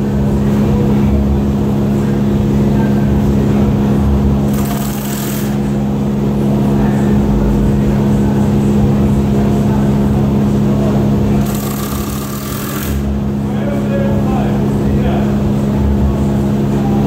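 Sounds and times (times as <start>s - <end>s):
workshop machinery droning: 0.0s - 17.0s.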